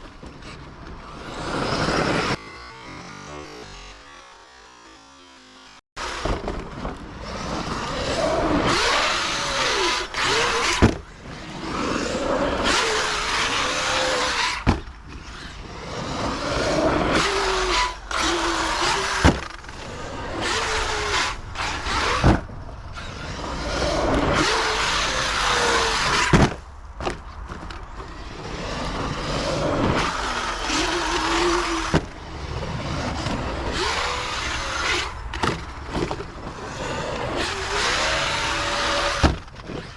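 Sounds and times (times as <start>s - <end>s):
electric motor whining: 0.9s - 14.6s, 15.2s - 26.4s, 28.1s - 39.9s
tyre noise on dirt: 6.0s - 39.9s.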